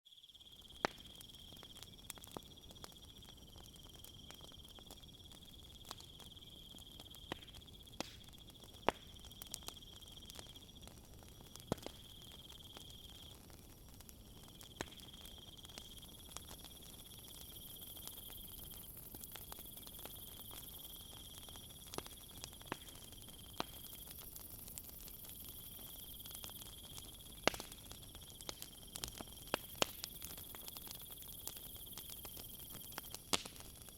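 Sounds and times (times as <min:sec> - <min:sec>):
night insects chirring: 0:00.1 - 0:33.9
wood fire crackling: 0:00.6 - 0:33.9.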